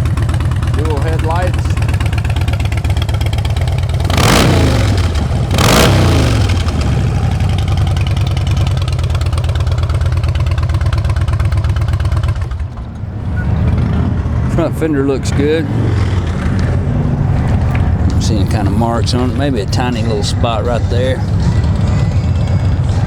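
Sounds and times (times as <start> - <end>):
motorcycle engine idling: 0.0 - 23.0
motorcycle throttle blips: 0.0 - 23.0.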